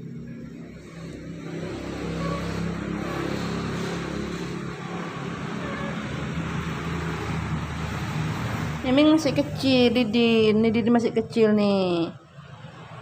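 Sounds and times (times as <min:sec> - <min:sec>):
broad rushing noise: 0:00.0 - 0:10.6.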